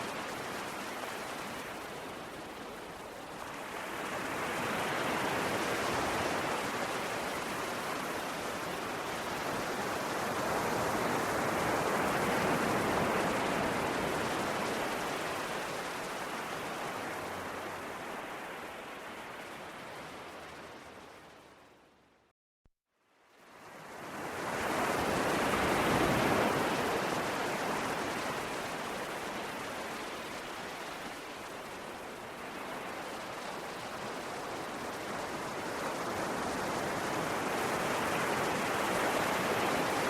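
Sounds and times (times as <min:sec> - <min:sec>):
sea waves washing ashore: 0:00.0 - 0:21.7, 0:23.4 - 0:40.0.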